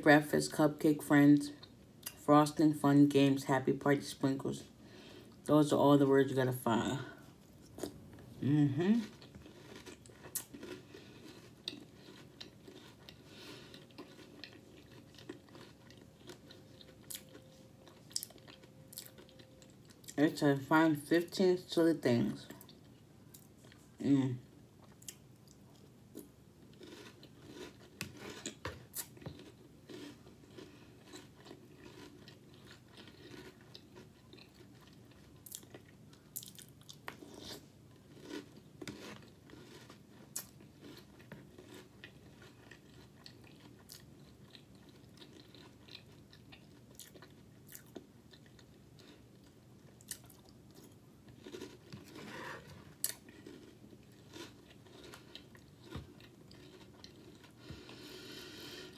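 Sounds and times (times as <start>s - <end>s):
chewing and crunching cereal: 6.3s - 24.0s, 24.8s - 58.9s.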